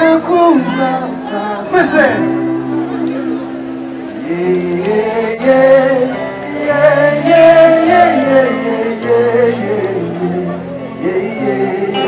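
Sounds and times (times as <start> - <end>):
live band playing: 0.0 - 12.0
person singing with held notes: 2.3 - 12.0.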